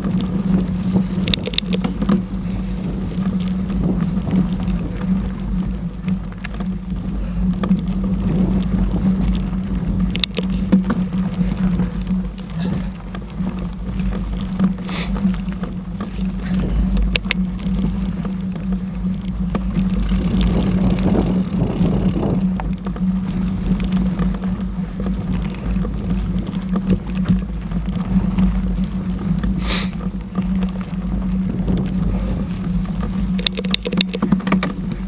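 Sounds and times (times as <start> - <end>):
bike clicks and rattles: 0.0 - 35.0
mountain bike rumbling on trail: 0.0 - 35.0.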